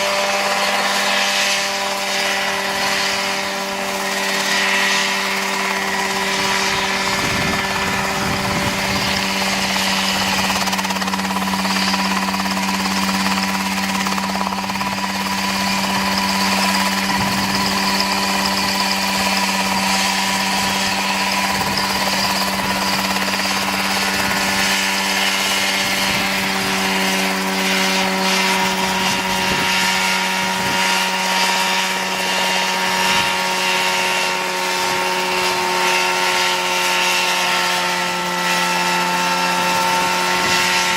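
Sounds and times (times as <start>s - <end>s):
helicopter engine running: 0.0s - 40.9s.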